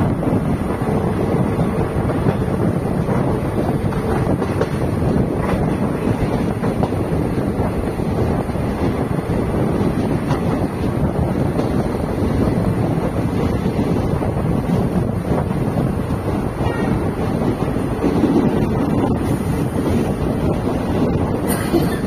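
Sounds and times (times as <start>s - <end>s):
train wheels rumbling on rails: 0.0s - 22.0s
wind buffeting microphone: 0.0s - 22.0s.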